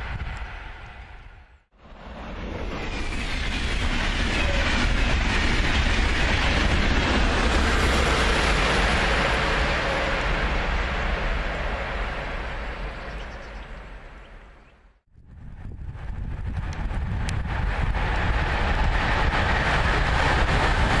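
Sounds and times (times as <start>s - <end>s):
train passing at speed: 0.0s - 14.6s, 15.3s - 21.0s.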